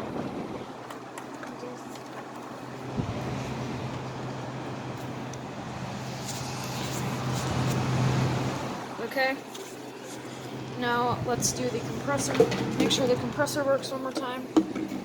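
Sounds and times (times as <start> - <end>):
air conditioner fan blowing: 0.0 - 15.0.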